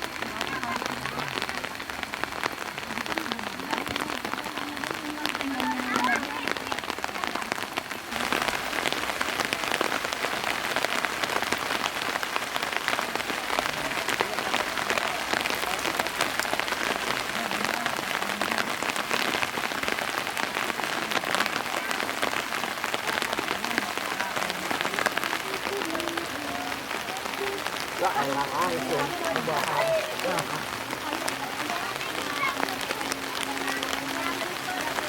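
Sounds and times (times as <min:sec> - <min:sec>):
steady rain patter: 0:00.0 - 0:35.0.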